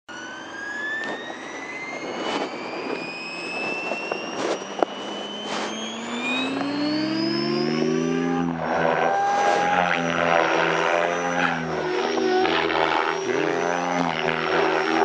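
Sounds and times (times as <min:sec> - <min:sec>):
rc helicopter motor whine: 0:00.1 - 0:15.0.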